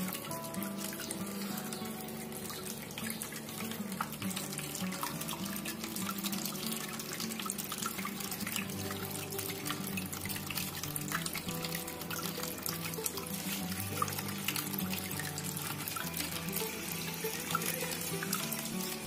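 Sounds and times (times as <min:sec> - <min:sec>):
background music: 0:00.0 - 0:19.0
water trickling into basin: 0:00.0 - 0:19.0.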